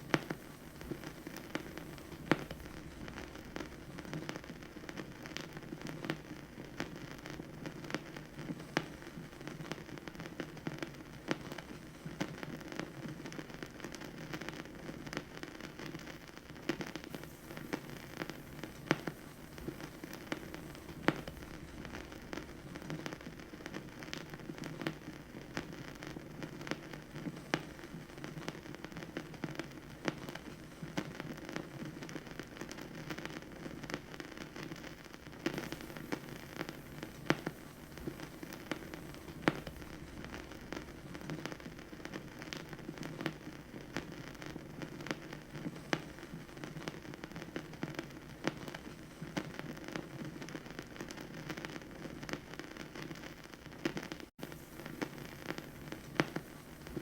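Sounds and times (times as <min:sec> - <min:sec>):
low rumble of spinning record: 0:00.0 - 0:53.1, 0:54.0 - 0:57.0
vinyl record crackle: 0:00.0 - 0:57.0.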